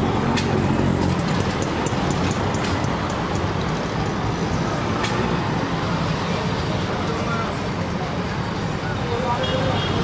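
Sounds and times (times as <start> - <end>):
low rumble of street traffic: 0.0 - 10.0.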